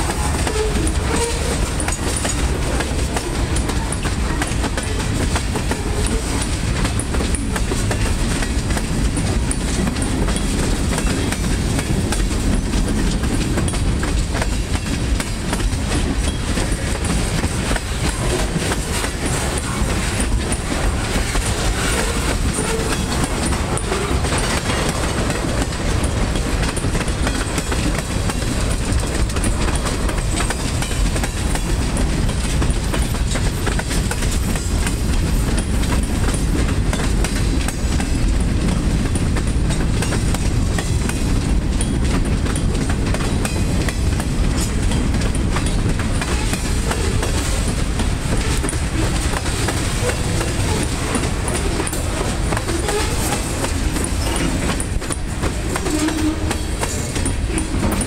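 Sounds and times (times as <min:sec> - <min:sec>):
freight train rolling noise: 0:00.0 - 0:58.0
train wheels clicking over rail joints: 0:00.0 - 0:58.0.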